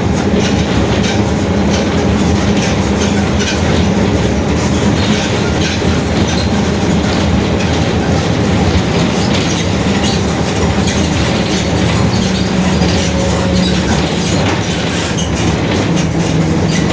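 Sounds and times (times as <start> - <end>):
bus differential droning: 0.0 - 16.9.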